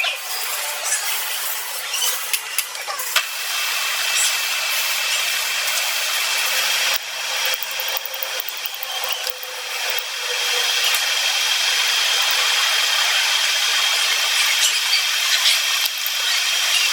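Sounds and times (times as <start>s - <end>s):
power tool grinding metal: 0.0s - 16.9s.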